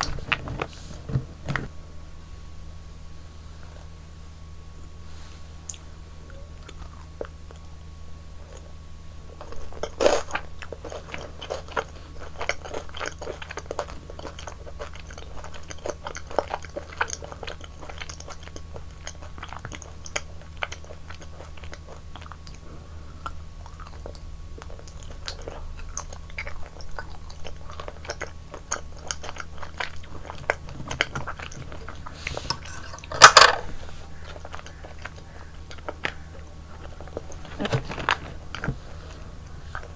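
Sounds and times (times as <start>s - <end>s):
wet crunching and chewing: 5.7s - 39.9s.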